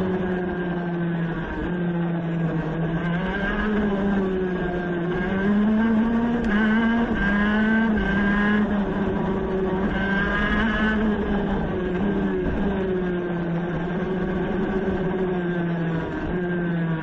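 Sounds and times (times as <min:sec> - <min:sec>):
kart engine accelerating: 0:00.0 - 0:17.0.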